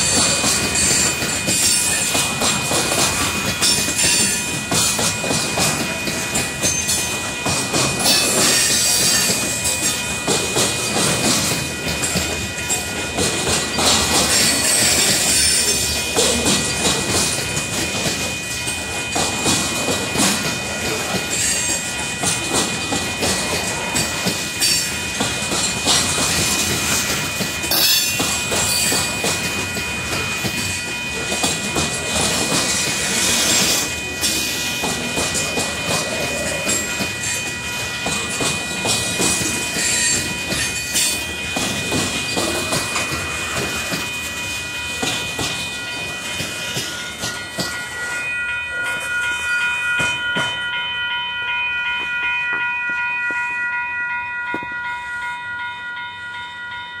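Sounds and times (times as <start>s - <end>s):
train wheels clacking on rails: 0.0s - 50.8s, 54.4s - 54.9s
crossing bell ringing: 0.0s - 57.0s.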